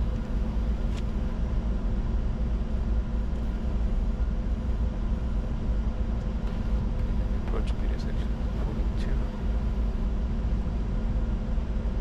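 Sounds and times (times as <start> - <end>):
faint steady hum: 0.0 - 12.0
jet cockpit airflow and engine rumble: 0.0 - 12.0.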